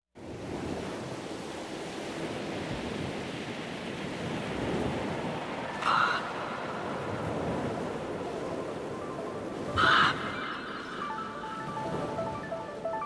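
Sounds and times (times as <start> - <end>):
wind: 0.1 - 13.0
waves breaking on beach: 0.2 - 13.0.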